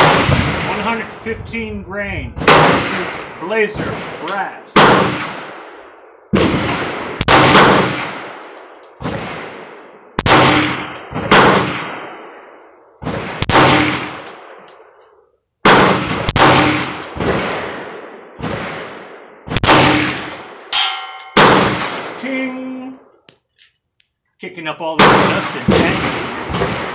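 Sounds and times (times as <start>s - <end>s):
pistol shots with echo: 0.0s - 1.0s, 2.4s - 14.8s, 15.6s - 22.2s, 25.0s - 26.9s.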